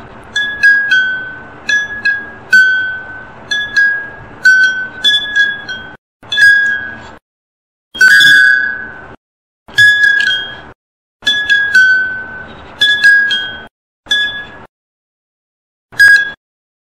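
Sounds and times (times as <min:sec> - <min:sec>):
chopstick striking ringing bowls: 0:00.3 - 0:07.2, 0:08.0 - 0:14.7.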